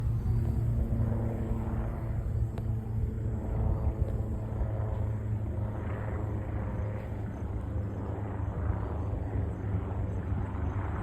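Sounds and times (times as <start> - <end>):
helicopter rotor and engine rumble: 0.0 - 11.0.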